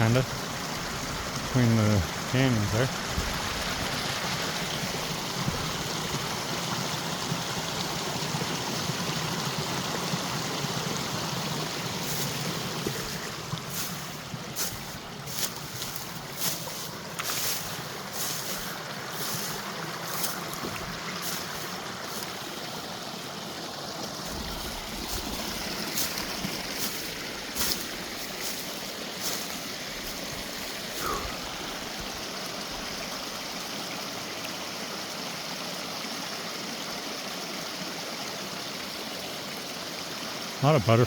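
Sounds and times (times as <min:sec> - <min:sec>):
mountain creek rushing: 0:00.0 - 0:41.0.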